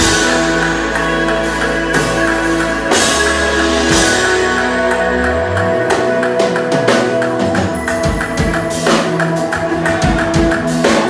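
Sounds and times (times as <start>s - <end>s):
drum kit played live: 0.0s - 11.0s
held instrumental chords: 0.0s - 11.0s.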